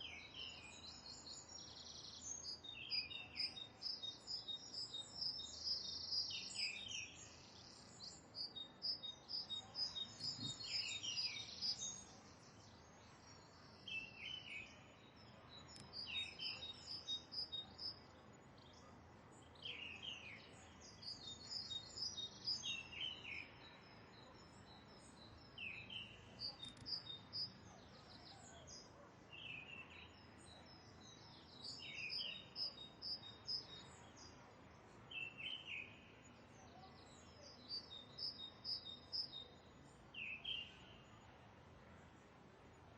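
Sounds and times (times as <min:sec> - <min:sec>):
birds chirping trills: 0:00.0 - 0:41.4
faint background noise: 0:00.0 - 0:42.9.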